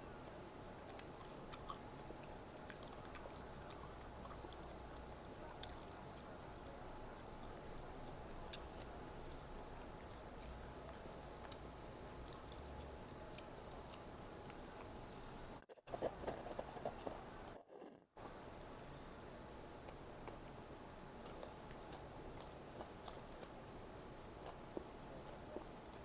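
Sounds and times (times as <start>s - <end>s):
low steady hum: 0.0s - 26.0s
person chewing food: 0.8s - 14.9s, 15.6s - 18.0s, 19.8s - 26.0s.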